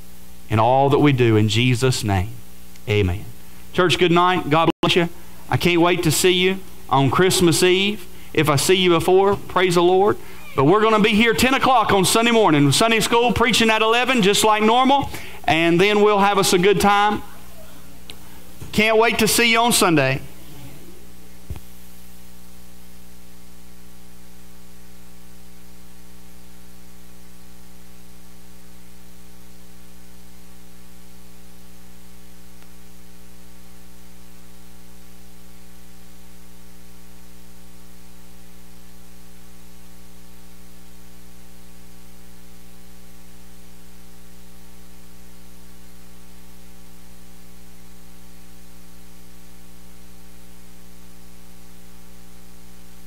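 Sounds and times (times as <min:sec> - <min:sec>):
electrical mains hum: 0:00.0 - 0:53.0
static hiss: 0:00.0 - 0:53.0.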